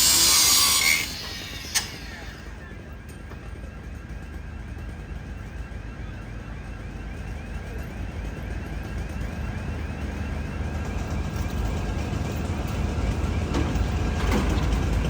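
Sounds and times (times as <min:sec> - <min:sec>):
heavy vehicle engine running: 0:01.0 - 0:15.0.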